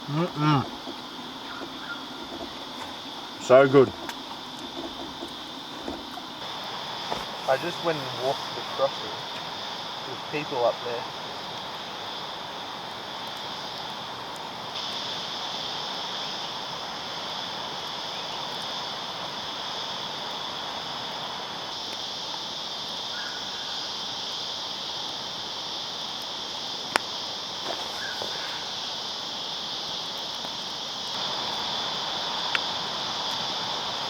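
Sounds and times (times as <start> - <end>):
insect chorus buzzing: 0.0 - 34.0
outdoor noise rush: 0.0 - 34.0.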